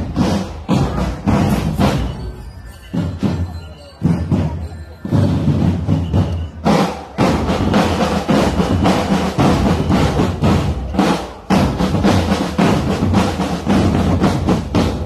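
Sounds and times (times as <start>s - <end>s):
marching snare and bass drums: 0.0s - 15.0s.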